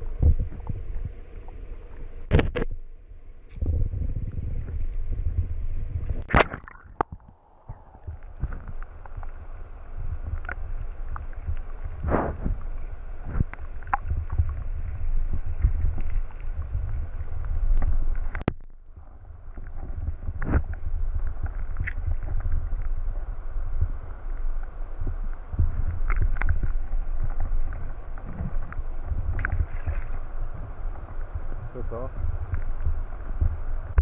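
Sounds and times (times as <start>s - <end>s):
muffled underwater stream rumble: 0.0s - 34.0s.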